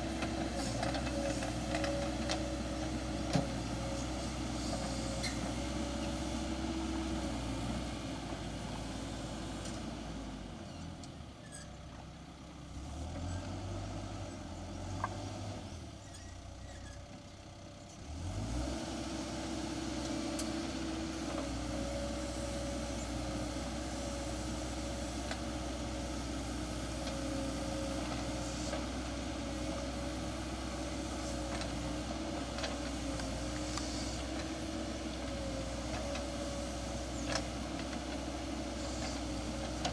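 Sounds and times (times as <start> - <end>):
diesel engine running: 0.0 - 9.5, 16.6 - 39.9.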